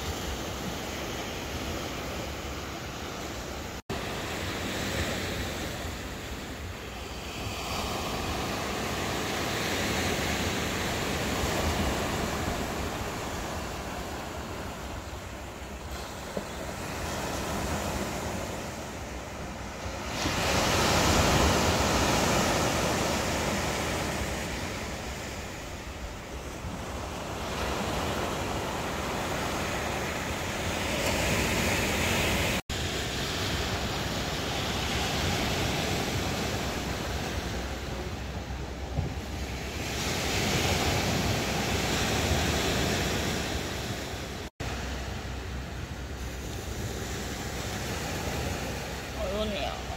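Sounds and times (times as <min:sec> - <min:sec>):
waves breaking on pebble beach: 0:00.0 - 0:49.9.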